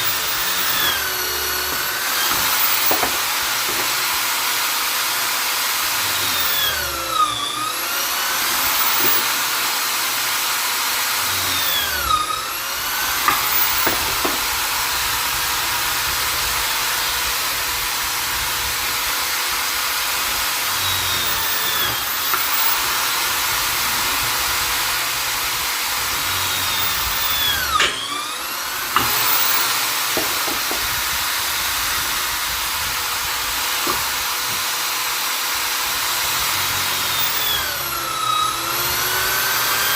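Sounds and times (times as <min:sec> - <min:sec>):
drill clicks: 0:00.0 - 0:39.9
electric drill whining: 0:00.0 - 0:39.9.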